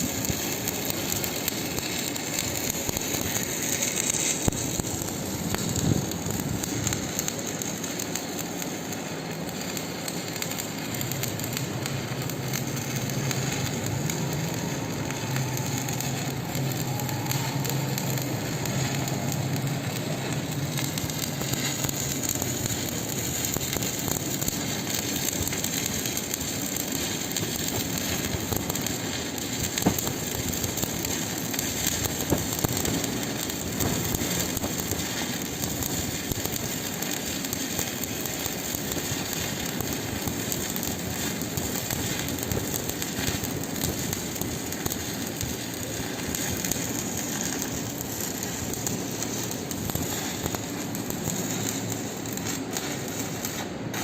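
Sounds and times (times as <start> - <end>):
welding arc crackling: 0.0 - 54.0.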